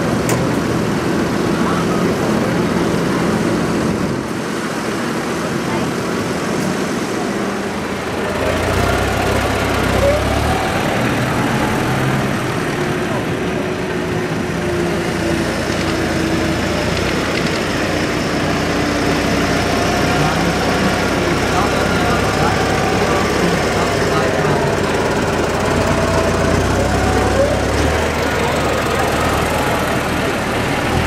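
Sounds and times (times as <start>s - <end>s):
crowd voices: 0.0s - 31.0s
tractor engines idling: 0.0s - 31.0s.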